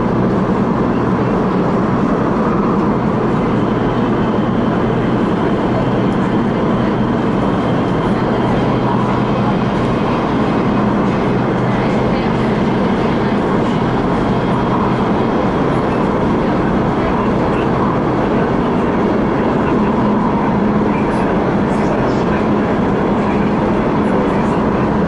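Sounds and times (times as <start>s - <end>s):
constant electric hum: 0.0s - 25.0s
train wheels rumbling on track: 0.0s - 25.0s.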